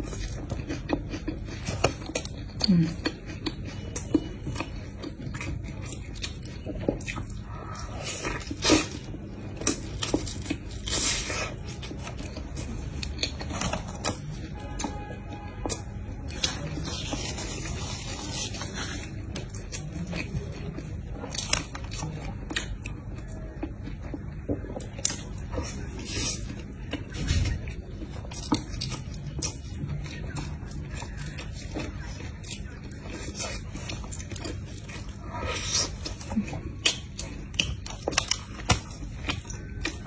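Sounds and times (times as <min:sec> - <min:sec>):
person chewing: 0:00.0 - 0:40.0.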